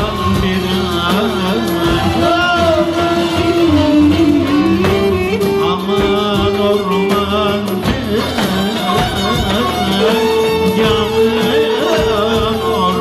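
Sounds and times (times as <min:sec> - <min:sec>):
folk ensemble playing: 0:00.0 - 0:13.0
man singing: 0:00.0 - 0:13.0.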